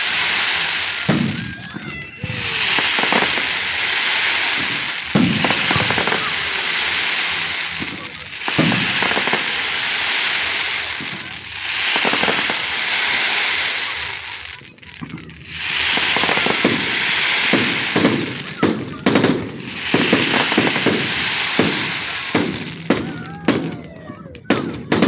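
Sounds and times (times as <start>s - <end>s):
fireworks hissing as they rise: 0.0s - 25.0s
fireworks pops and crackles: 0.0s - 25.0s.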